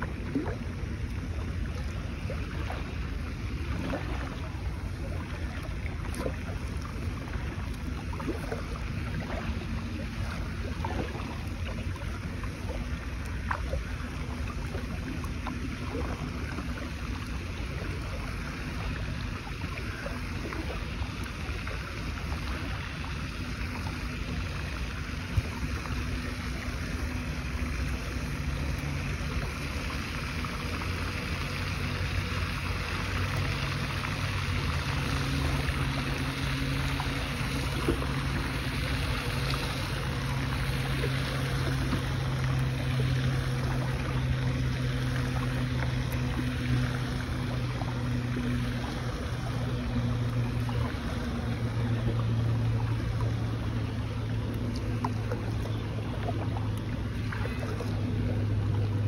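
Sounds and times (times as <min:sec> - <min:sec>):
low steady hum: 0:00.0 - 0:59.0
water washing: 0:00.0 - 0:59.0.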